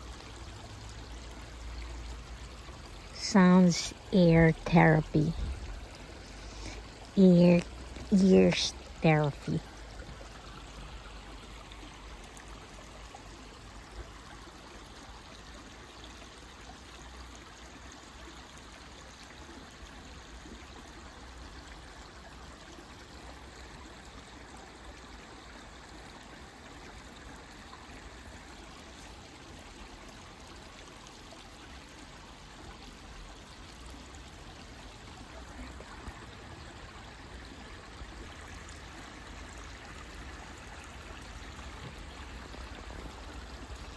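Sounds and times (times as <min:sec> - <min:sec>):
stream water rushing and trickling: 0:00.0 - 0:43.9.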